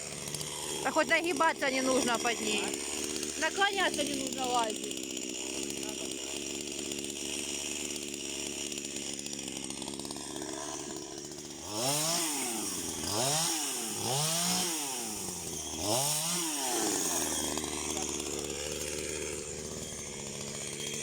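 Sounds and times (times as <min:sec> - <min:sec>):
chainsaw idling and revving: 0:00.0 - 0:21.0.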